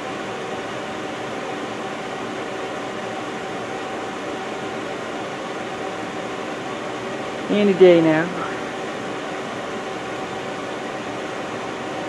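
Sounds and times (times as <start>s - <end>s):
machine humming and hissing: 0.0s - 12.0s.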